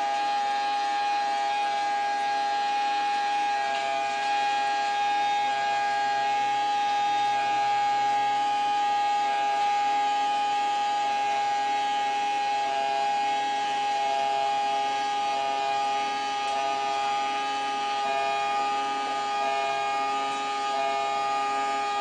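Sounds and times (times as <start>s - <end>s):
alarm buzzer high tone: 0.0s - 22.0s.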